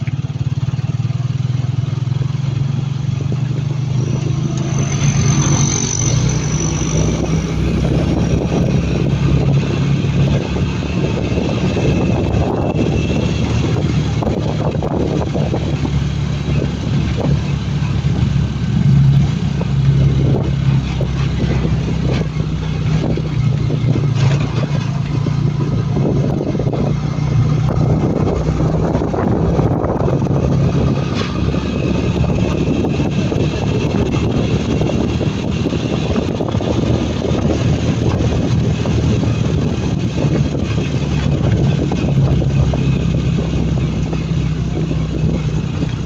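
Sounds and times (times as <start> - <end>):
constant rushing noise: 0.0 - 46.0
motorcycle engine running: 0.0 - 46.0.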